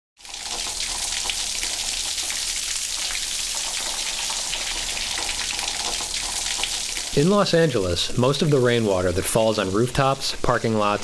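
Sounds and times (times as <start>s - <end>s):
rain pattering on hard surface: 0.2s - 11.0s.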